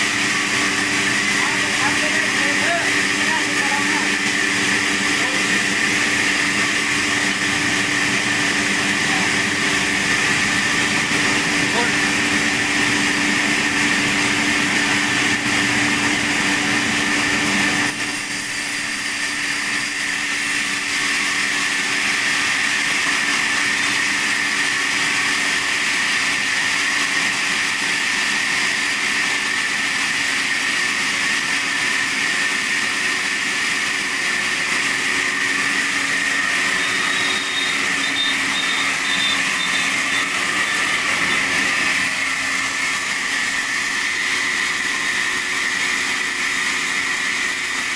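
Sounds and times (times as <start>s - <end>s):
sawmill saw sawing wood: 0.0s - 47.9s.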